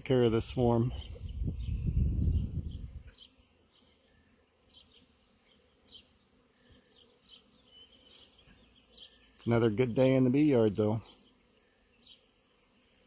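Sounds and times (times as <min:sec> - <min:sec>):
bees humming: 0:00.0 - 0:13.0.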